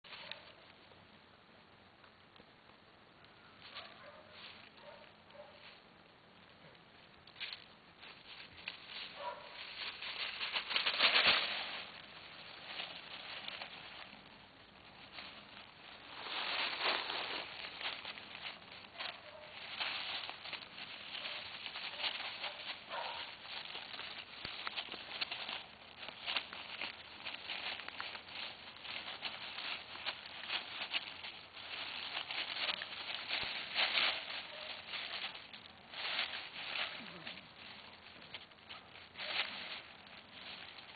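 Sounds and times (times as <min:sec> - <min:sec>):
dry leaves crunching underfoot: 0:00.0 - 0:00.6, 0:03.6 - 0:05.8, 0:07.2 - 0:40.9
puppy rustling through leaves: 0:00.0 - 0:00.8, 0:03.5 - 0:05.8, 0:07.2 - 0:40.9.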